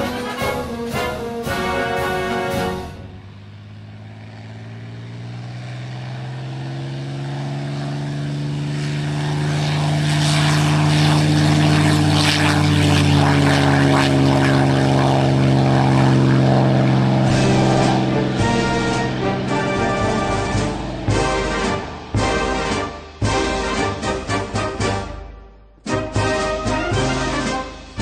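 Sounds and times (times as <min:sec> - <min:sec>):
propeller aircraft engine droning: 0:00.0 - 0:28.0.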